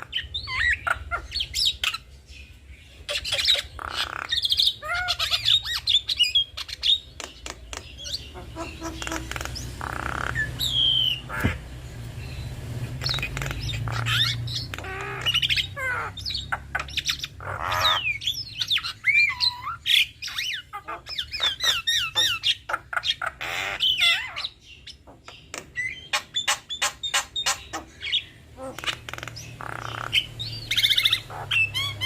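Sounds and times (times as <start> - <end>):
birds squawking and chattering: 0.0 - 32.0.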